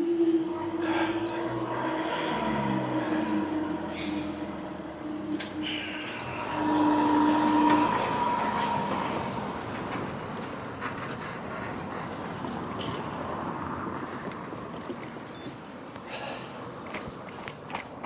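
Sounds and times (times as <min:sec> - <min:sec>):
passenger train whine and rumble: 0:00.0 - 0:18.0.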